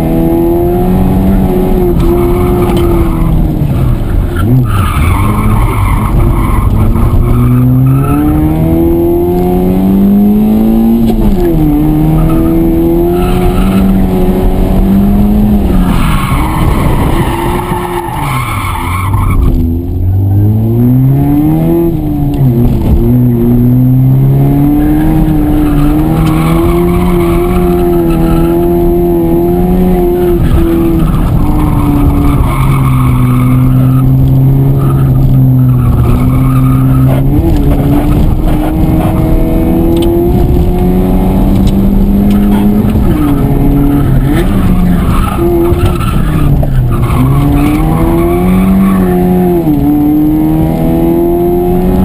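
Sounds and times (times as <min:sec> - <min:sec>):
rally car engine driven hard: 0:00.0 - 0:52.0.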